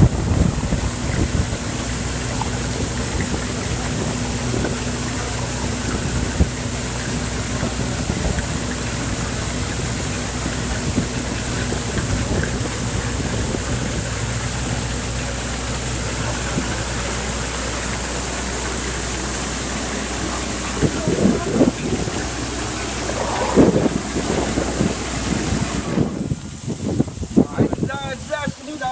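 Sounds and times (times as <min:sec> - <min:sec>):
washing machine motor hum: 0:00.0 - 0:27.9
rushing water noise: 0:00.0 - 0:28.9.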